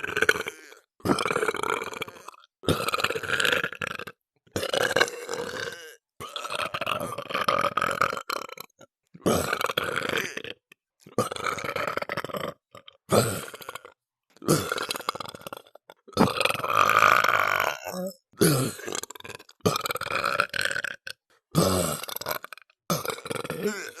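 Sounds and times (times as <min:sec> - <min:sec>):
person burping: 0:00.0 - 0:24.0.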